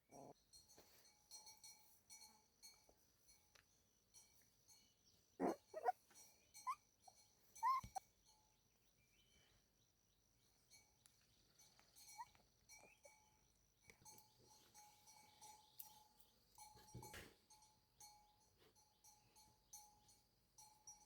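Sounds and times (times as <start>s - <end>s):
faint chirps: 0.0s - 20.8s.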